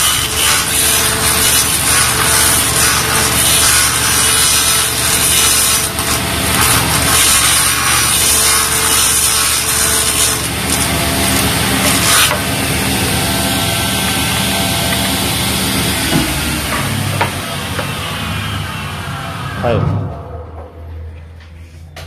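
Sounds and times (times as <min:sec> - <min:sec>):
table saw cutting: 0:00.0 - 0:20.6.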